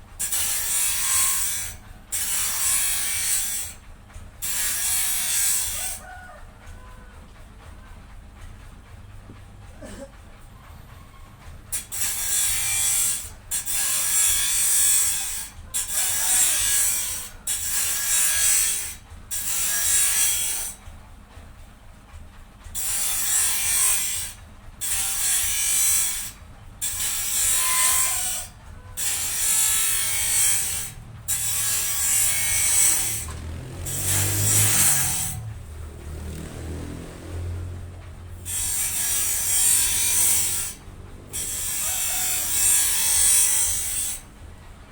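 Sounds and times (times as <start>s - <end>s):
rasping strokes on wood: 0.1s - 3.8s, 4.4s - 7.7s, 11.0s - 20.8s, 22.7s - 44.3s.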